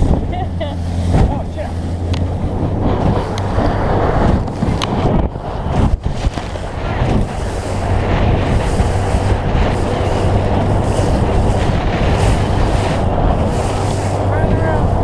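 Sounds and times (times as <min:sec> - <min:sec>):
boat motor drone: 0:00.0 - 0:15.0
water noise: 0:00.0 - 0:15.0
wind buffeting microphone: 0:00.0 - 0:15.0.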